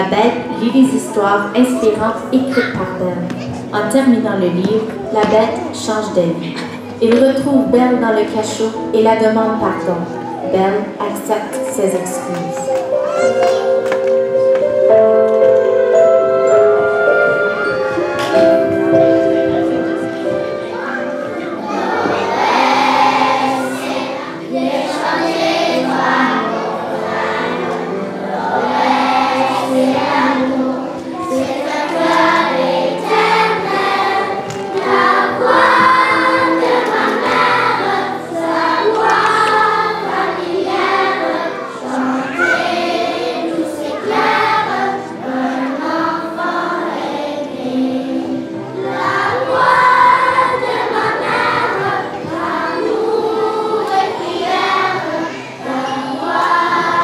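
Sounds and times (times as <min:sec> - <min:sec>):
children's choir singing: 0:00.0 - 0:57.0
instrumental accompaniment: 0:00.0 - 0:57.0.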